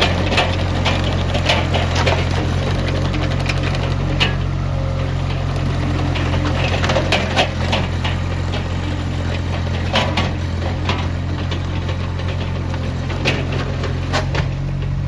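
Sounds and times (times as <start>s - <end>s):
sharp knocks and clatter: 0.0s - 15.0s
small loader engine running: 0.0s - 15.0s.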